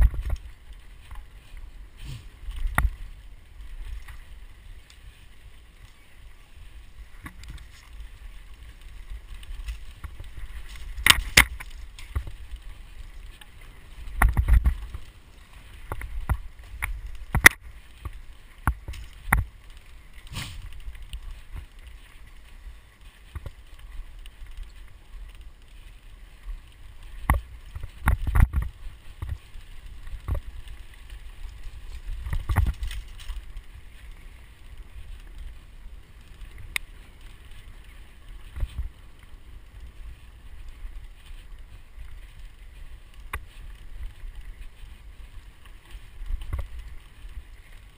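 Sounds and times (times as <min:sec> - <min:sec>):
bike knocking and rattling: 0:00.0 - 0:47.9
wind and tyres rumbling: 0:00.0 - 0:47.9.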